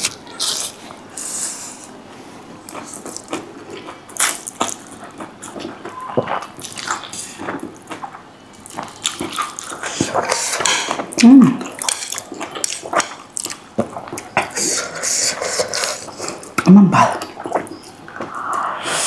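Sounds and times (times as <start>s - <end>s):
noodles slurped and chewed: 2.6s - 19.0s.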